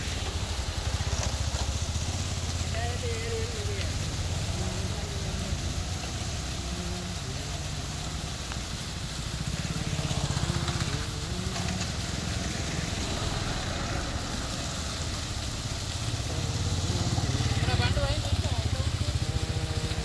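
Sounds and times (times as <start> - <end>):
fountain water jets splashing: 0.0 - 20.0
motorcycle engines passing: 0.0 - 20.0.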